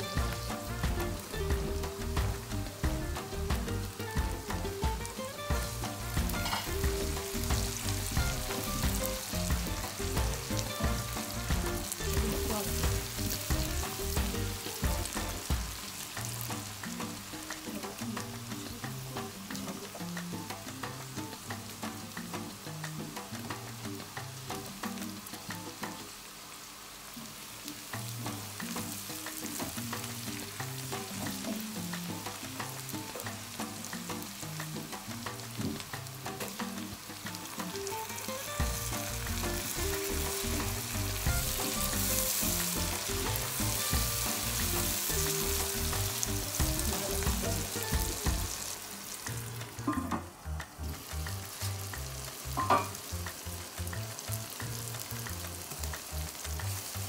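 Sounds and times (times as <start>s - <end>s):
vegetables sizzling in hot oil: 0.0s - 57.0s.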